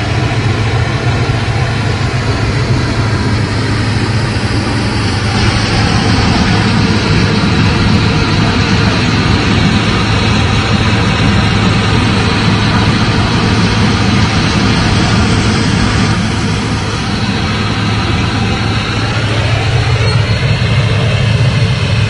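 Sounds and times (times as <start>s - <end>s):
tank engine running: 0.0s - 22.0s.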